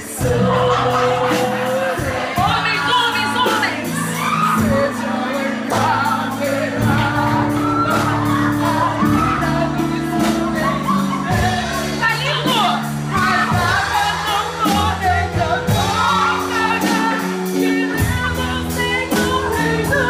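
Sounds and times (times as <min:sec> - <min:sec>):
acoustic guitar: 0:00.0 - 0:20.0
drums: 0:00.0 - 0:20.0
voices singing: 0:00.0 - 0:20.0.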